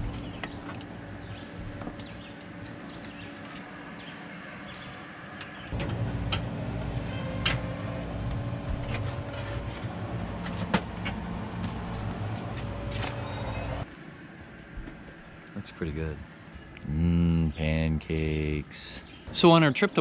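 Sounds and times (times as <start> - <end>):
outdoor ambience: 0.0 - 20.0
steady mechanical hum: 0.0 - 20.0.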